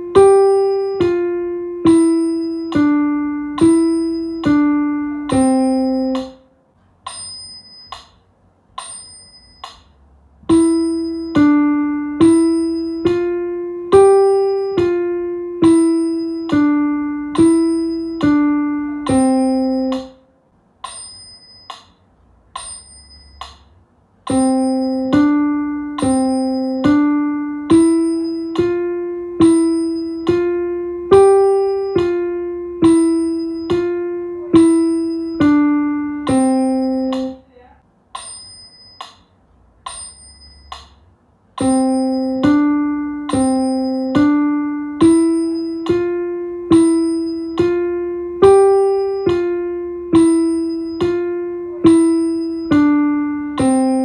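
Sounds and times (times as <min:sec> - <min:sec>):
piano single notes: 0:00.0 - 0:37.6, 0:38.2 - 0:54.0.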